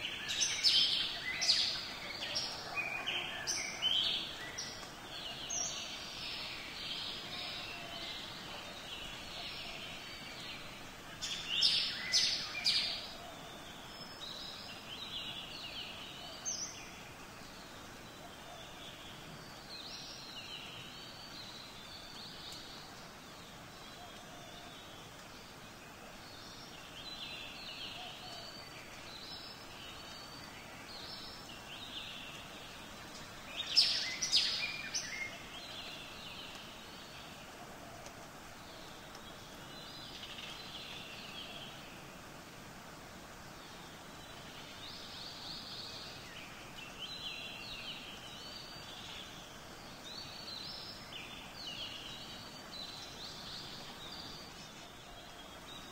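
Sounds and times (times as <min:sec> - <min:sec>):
small birds chirping: 0:00.0 - 0:55.9
steady outdoor hiss: 0:00.0 - 0:55.9.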